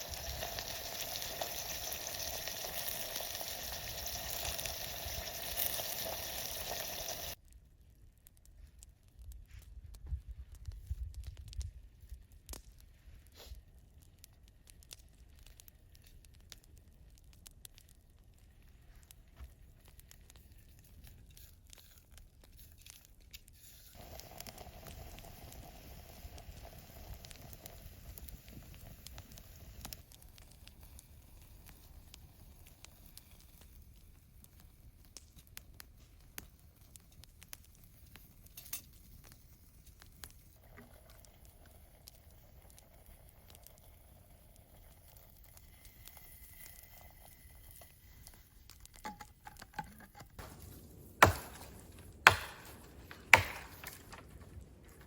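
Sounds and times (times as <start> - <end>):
faint crackling and clicks: 0.0 - 51.1.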